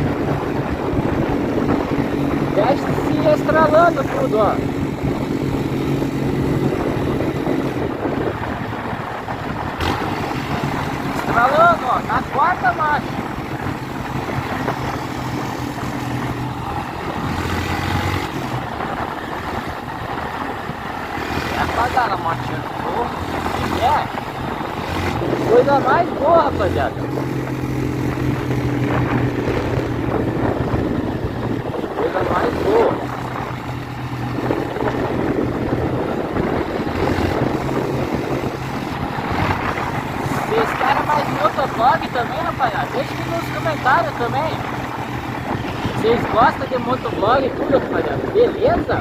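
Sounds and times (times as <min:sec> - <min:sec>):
motorcycle exhaust crackling: 0:00.0 - 0:49.0
wind noise on microphone: 0:00.0 - 0:49.0.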